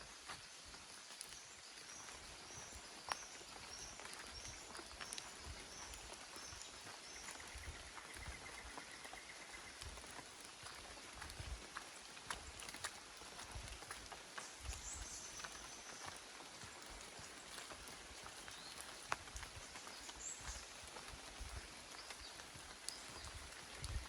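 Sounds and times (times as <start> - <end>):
footsteps on forest track: 0.0 - 24.0.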